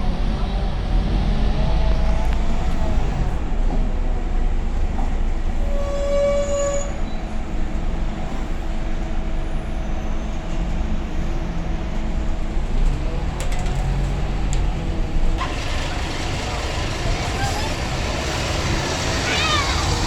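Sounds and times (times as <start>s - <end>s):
heavy road traffic rumble: 0.0s - 5.8s, 6.9s - 20.0s.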